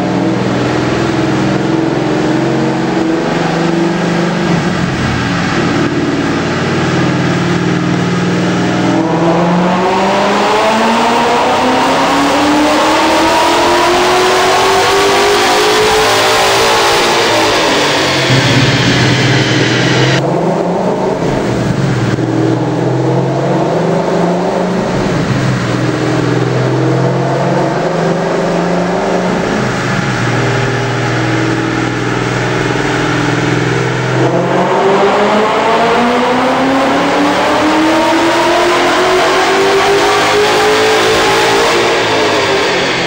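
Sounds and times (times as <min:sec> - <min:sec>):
car engine revving under load: 0:00.0 - 0:43.0.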